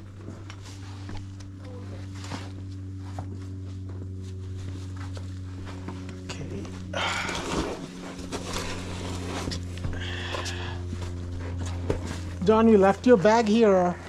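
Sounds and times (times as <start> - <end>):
low drone: 0.0 - 14.0.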